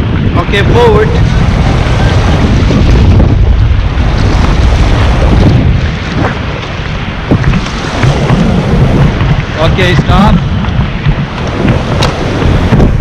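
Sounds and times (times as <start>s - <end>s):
river water rushing: 0.0s - 13.0s
wind buffeting microphone: 0.0s - 13.0s
paddle splashes: 1.0s - 13.0s.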